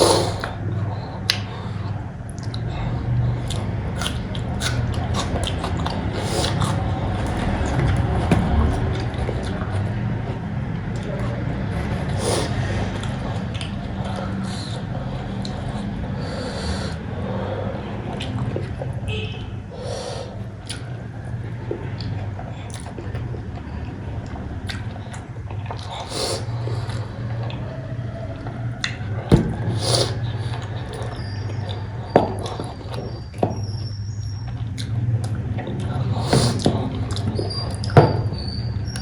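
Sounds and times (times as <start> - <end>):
wet chewing and smacking: 0.0 - 17.1, 17.8 - 19.2, 20.3 - 39.0.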